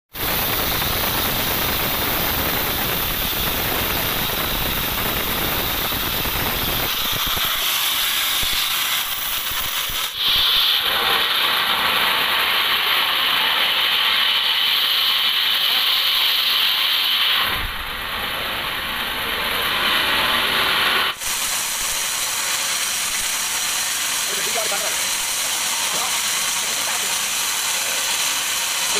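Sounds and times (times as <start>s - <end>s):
high saw whine: 0.1s - 28.9s
band saw cutting wood: 0.2s - 28.9s.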